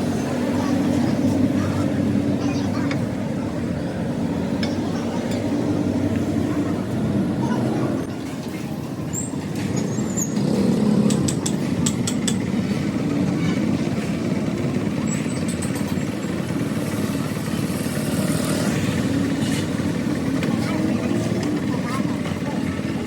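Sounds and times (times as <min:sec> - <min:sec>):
motor vehicle rumble: 0:00.0 - 0:23.0.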